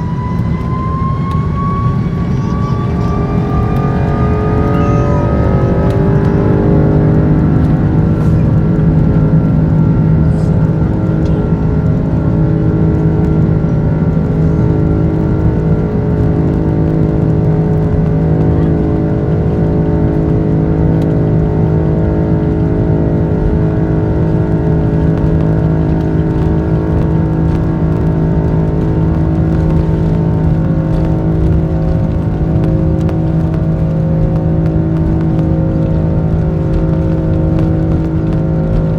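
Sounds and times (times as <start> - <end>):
jet engines rumbling and whining: 0.0 - 38.9.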